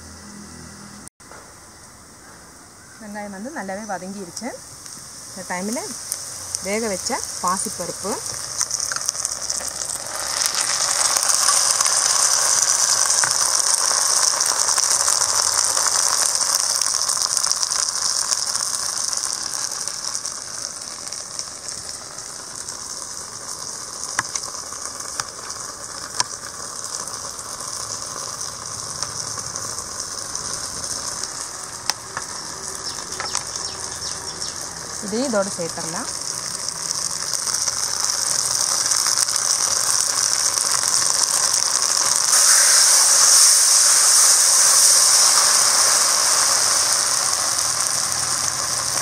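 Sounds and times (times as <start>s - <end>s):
hot oil sizzling and crackling: 0.0s - 49.0s.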